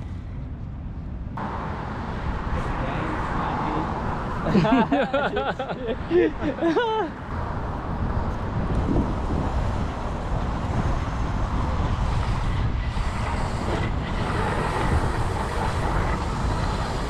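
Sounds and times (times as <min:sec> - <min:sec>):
street traffic: 0:00.0 - 0:17.0
inline skate wheels rolling on concrete: 0:01.9 - 0:17.0.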